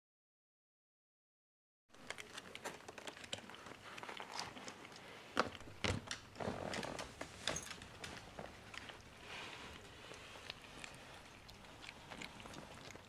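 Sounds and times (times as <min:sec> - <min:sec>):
puppies crunching kibble: 0:02.0 - 0:13.0.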